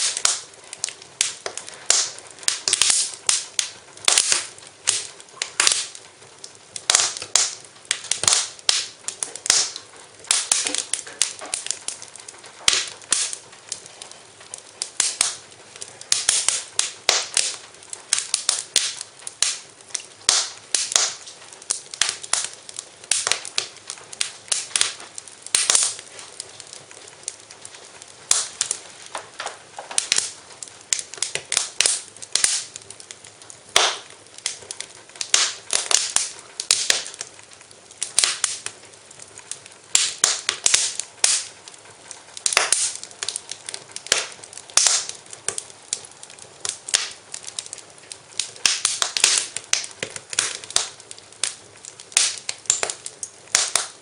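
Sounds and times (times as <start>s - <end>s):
fire pops and snaps: 0.0s - 54.0s
wood fire crackling: 0.0s - 54.0s.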